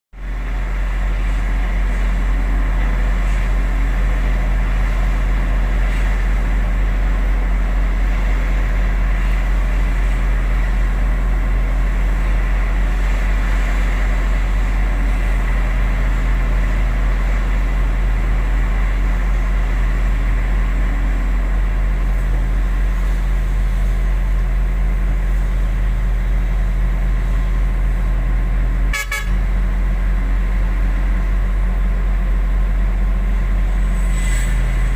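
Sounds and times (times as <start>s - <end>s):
diesel engine droning: 0.2s - 34.9s.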